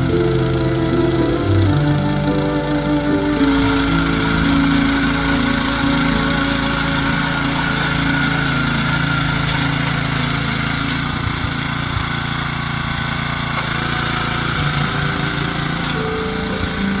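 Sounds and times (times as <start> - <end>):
petrol engine running: 0.0 - 17.0.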